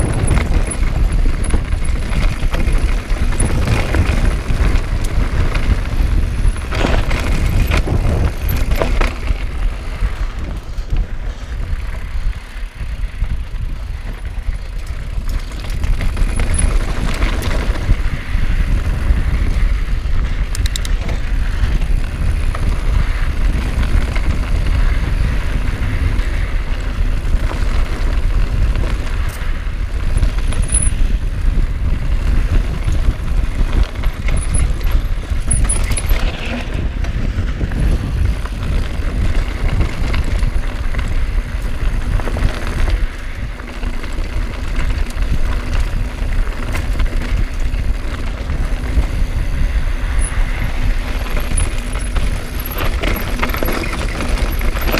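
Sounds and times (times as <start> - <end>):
bike rattling over stones: 0.0 - 54.9
bike tyres rumbling on gravel: 0.0 - 54.9
wind on microphone: 0.0 - 54.9.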